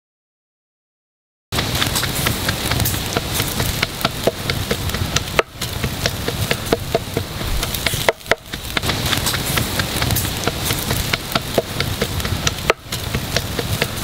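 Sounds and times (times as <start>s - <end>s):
meat sizzling over charcoal: 1.6s - 14.0s.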